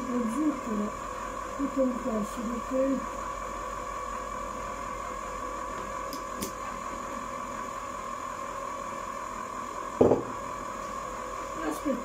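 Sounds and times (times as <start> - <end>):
ice cream maker humming: 0.0 - 12.0.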